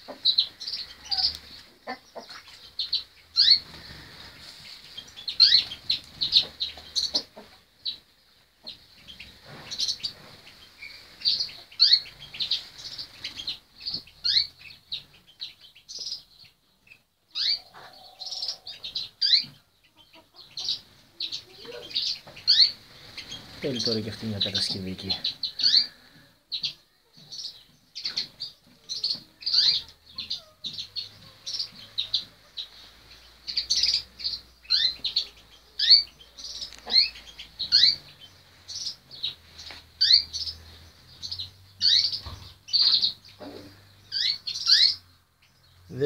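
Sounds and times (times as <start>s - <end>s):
faint rustling: 0.0s - 15.2s, 20.4s - 44.6s
birds chirping: 0.0s - 46.0s.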